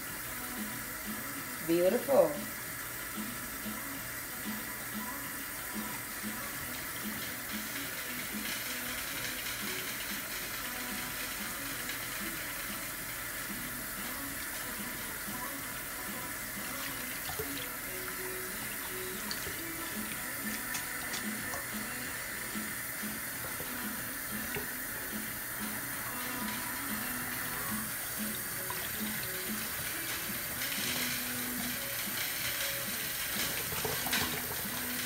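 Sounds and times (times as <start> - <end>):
faucet running into steel sink: 0.1 - 35.0.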